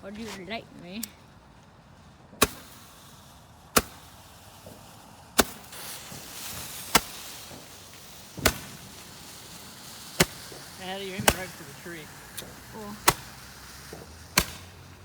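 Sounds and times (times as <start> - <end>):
firework hiss of burning: 0.0 - 15.0
firework pops: 2.4 - 15.0.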